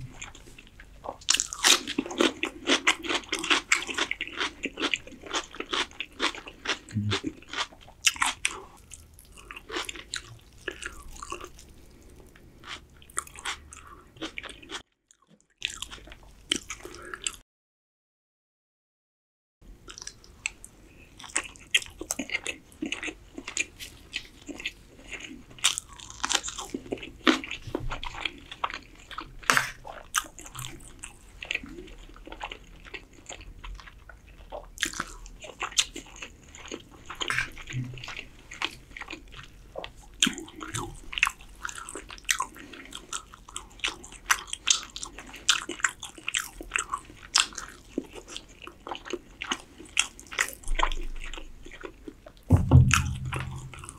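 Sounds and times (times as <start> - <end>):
person chewing food: 0.0 - 17.4, 19.8 - 53.9.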